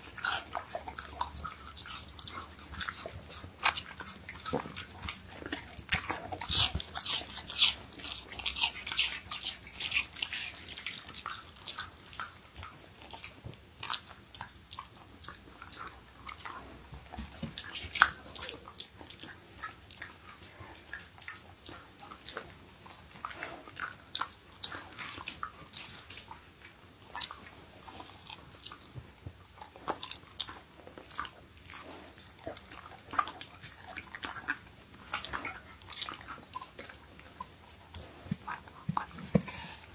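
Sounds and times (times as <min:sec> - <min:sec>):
dog crunching apple: 0:00.0 - 0:39.9.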